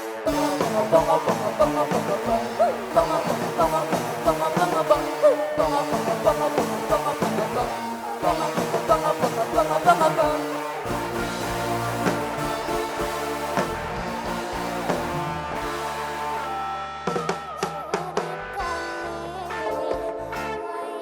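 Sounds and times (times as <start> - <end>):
steady drum beat: 0.0 - 18.2
band music: 0.0 - 20.8
guitar: 0.0 - 21.0.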